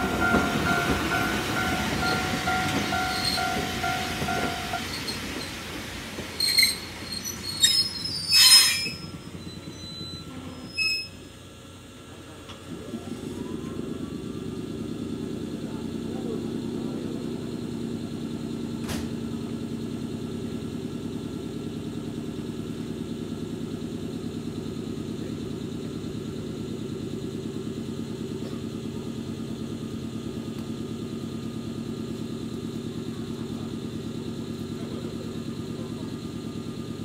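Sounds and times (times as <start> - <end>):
train machinery pulsing hum: 0.0 - 37.0.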